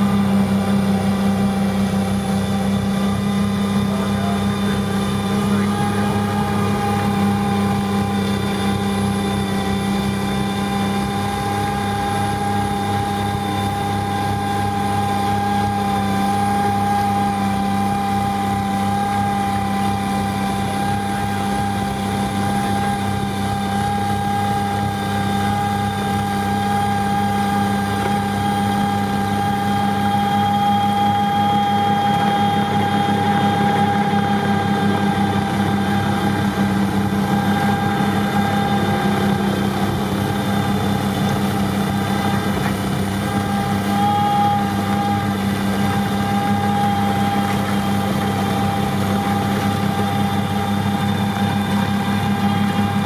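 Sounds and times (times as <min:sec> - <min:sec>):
heavy engine drone: 0:00.0 - 0:53.0
high whine: 0:00.0 - 0:53.0.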